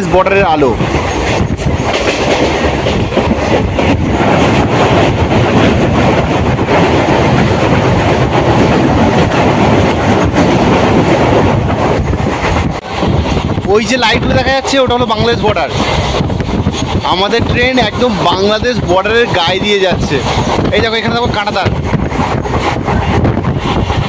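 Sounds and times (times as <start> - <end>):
train rumble and rush: 0.0 - 24.0
wheels clacking over rail joints: 0.3 - 24.0.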